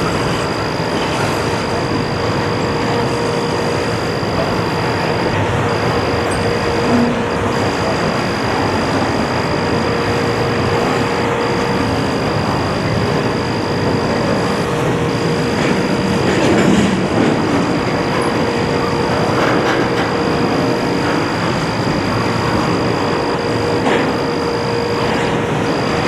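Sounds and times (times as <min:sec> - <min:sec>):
thin high whine: 0:00.0 - 0:26.0
train wheels rumbling on rail: 0:00.0 - 0:26.0.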